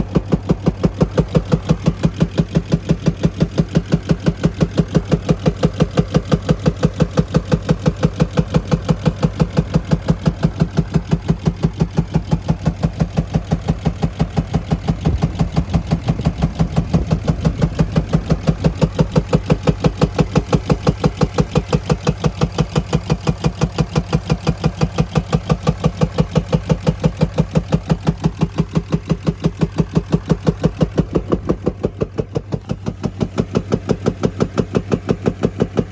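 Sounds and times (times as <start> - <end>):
diesel engine running: 0.0 - 35.9
engine knocking: 0.0 - 35.9.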